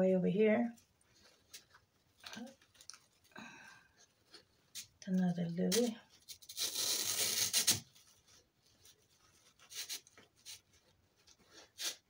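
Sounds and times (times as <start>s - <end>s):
artificial flowers rustling and scraping: 0.0s - 12.0s.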